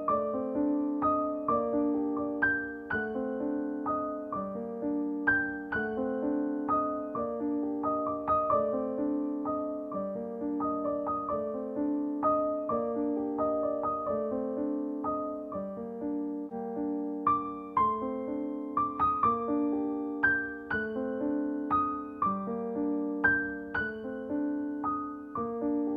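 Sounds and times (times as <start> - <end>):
slow piano melody: 0.0 - 25.9.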